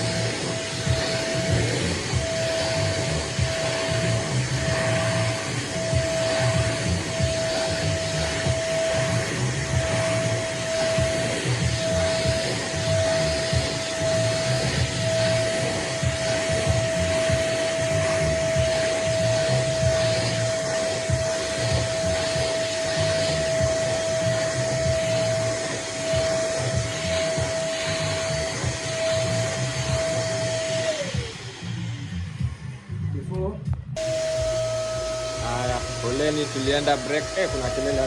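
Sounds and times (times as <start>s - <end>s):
vacuum cleaner running: 0.0s - 32.5s, 34.0s - 38.0s.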